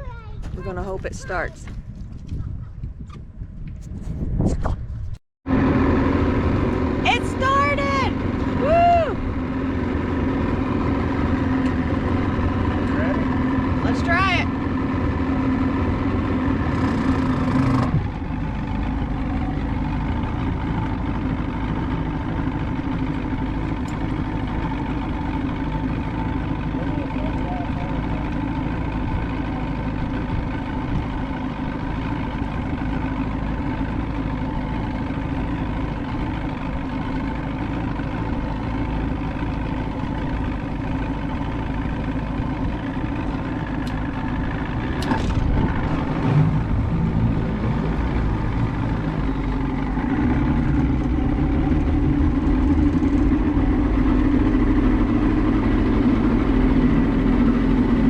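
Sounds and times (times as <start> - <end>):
engine idling: 5.5 - 58.0.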